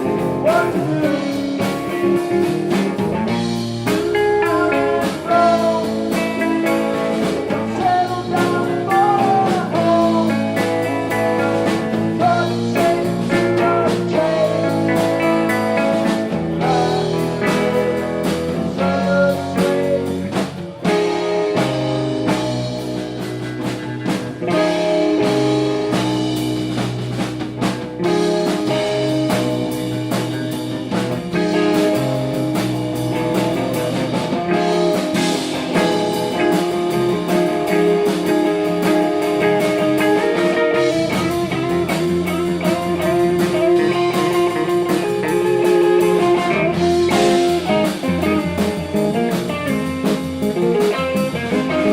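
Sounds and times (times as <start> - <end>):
blues-rock music: 0.0 - 51.9.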